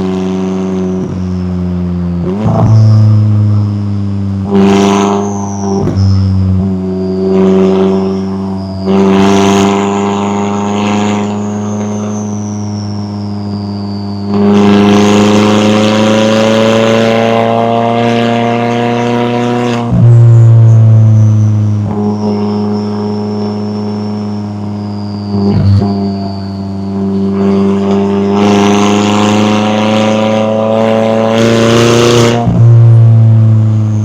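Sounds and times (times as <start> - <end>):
car exhaust while driving: 0.0 - 34.0.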